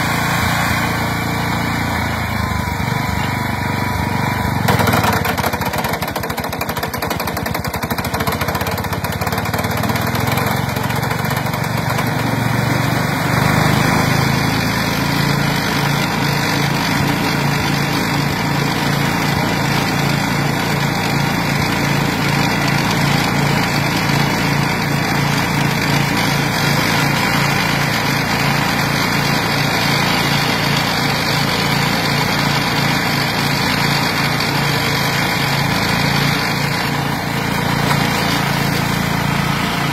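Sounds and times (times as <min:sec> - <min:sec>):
flail mower engine running: 0:00.0 - 0:39.9.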